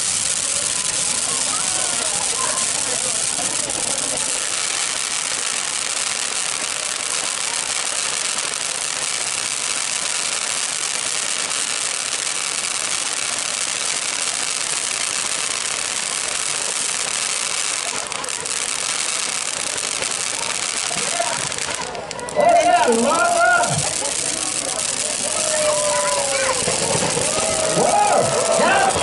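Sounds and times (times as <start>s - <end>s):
firework hissing and crackling: 0.0s - 29.0s.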